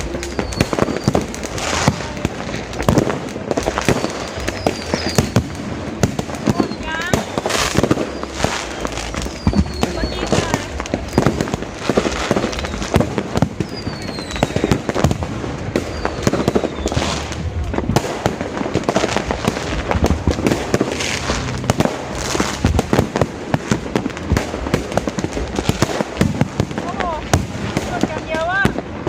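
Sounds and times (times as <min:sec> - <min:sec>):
fireworks bangs and pops: 0:00.0 - 0:29.0
fireworks falling whistles: 0:00.0 - 0:29.0.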